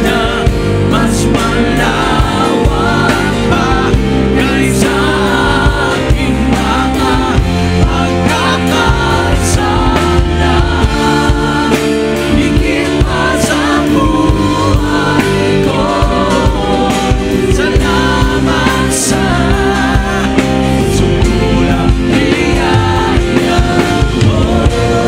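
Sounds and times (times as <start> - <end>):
drums with a steady beat: 0.0 - 25.0
electric and acoustic guitars: 0.0 - 25.0
singers holding long notes: 0.0 - 25.0.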